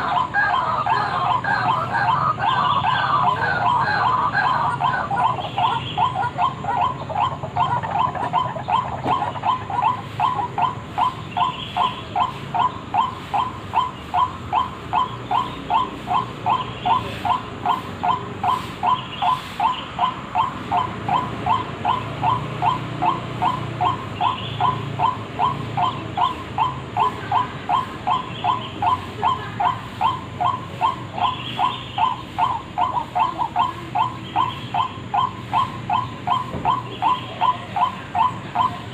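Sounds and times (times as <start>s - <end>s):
waterhen call repeated: 0.0s - 38.9s.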